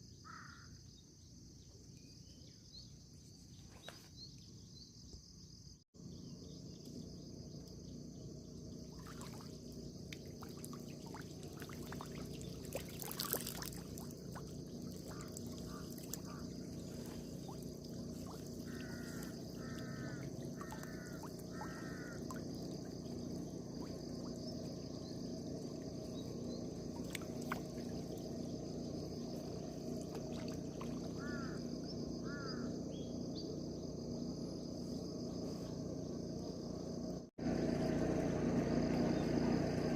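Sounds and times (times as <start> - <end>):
insect-like hiss: 3.0 - 37.3.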